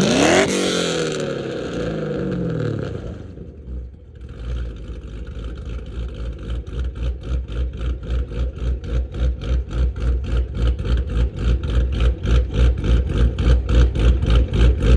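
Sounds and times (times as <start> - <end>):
car engine idling with a lope: 2.7 - 14.9.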